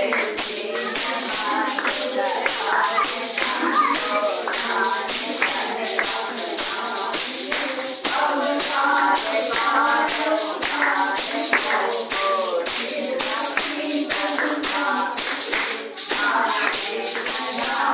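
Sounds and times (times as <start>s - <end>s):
jingling hand percussion: 0.0s - 17.9s
voices singing: 0.0s - 17.9s.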